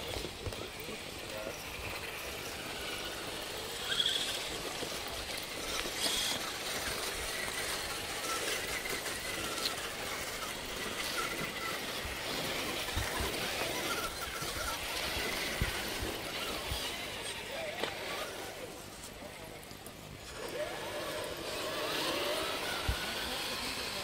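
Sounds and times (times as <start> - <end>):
toy truck motor whine: 0.0 - 24.0.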